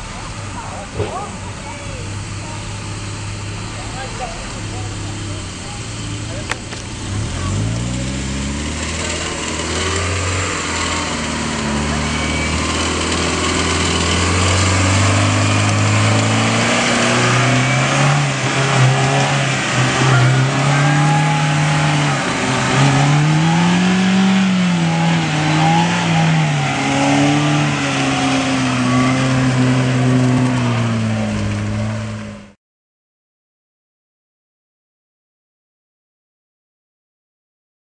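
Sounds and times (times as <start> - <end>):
car engine revving under load: 0.0 - 32.6.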